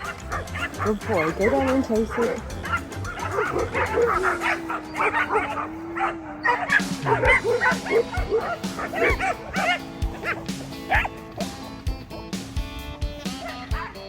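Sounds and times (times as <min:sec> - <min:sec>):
wavering drone hum: 0:00.0 - 0:12.4
dogs barking and yipping: 0:00.0 - 0:14.0.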